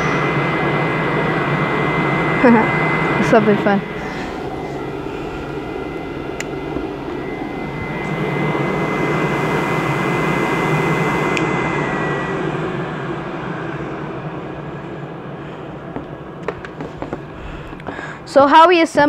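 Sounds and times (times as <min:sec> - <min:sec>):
duct fan running: 0:00.0 - 0:19.0.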